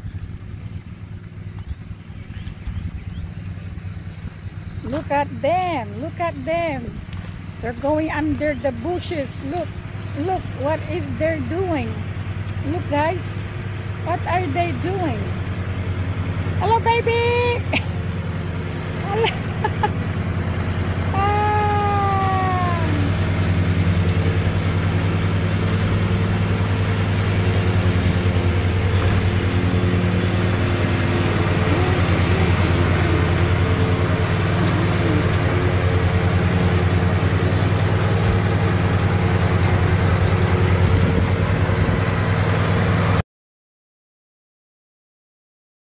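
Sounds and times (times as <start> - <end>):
riding mower cutting grass: 0.0 - 43.2.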